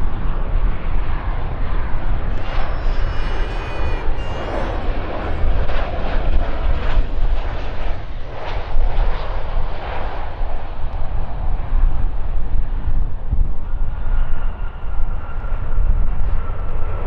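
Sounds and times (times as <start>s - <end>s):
jet engines rushing: 1.4s - 15.8s.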